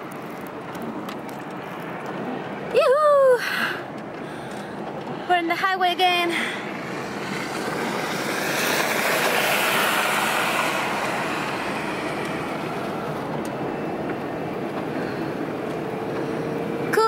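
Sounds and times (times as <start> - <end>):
van engine running: 0.0 - 17.0.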